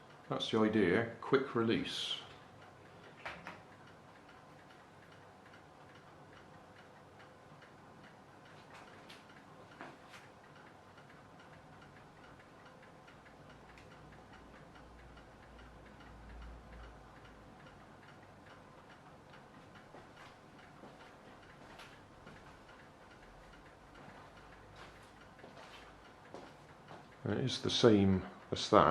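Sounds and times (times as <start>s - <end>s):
clock ticking: 1.7s - 28.9s.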